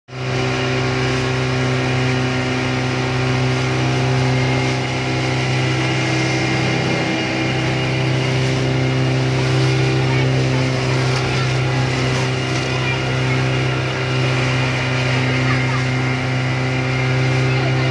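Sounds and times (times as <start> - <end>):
motorboat engine droning: 0.1 - 17.9
water rushing past hull: 0.3 - 17.9.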